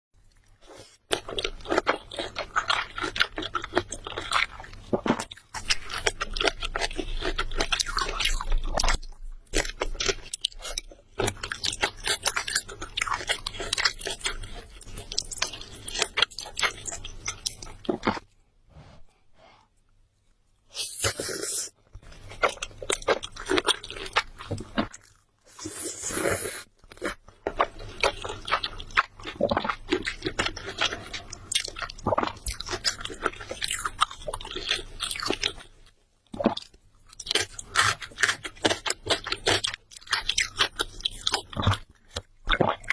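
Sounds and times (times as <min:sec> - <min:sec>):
person chewing crunchy food: 0:00.2 - 0:19.2, 0:20.8 - 0:42.9.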